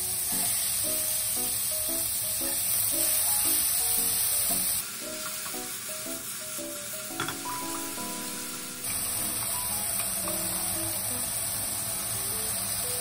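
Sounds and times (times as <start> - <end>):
meat and beans sizzling in a pan: 0.0 - 13.0.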